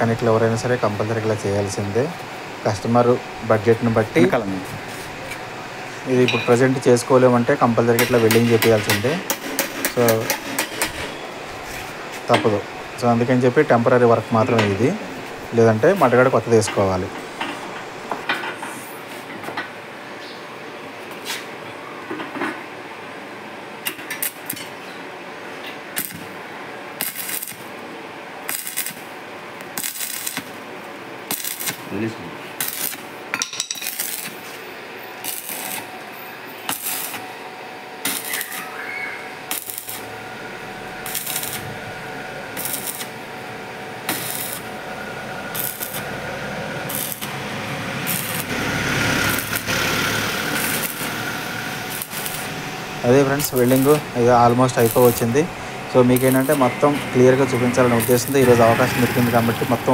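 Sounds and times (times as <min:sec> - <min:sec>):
arc welding: 0:00.0 - 0:18.0, 0:23.8 - 0:59.9.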